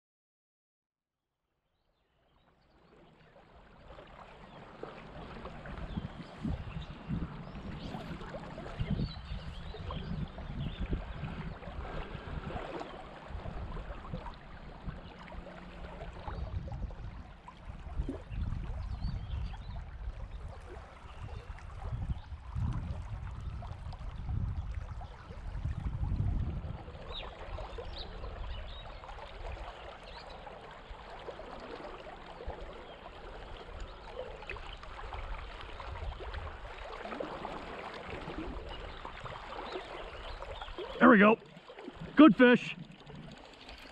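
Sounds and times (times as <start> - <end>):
river water lapping around boat: 2.0 - 43.9.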